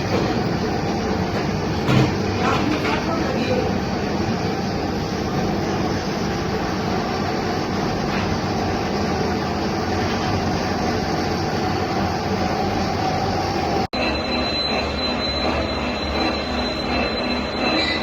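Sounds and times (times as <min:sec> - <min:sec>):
metal lathe running: 0:00.0 - 0:18.0.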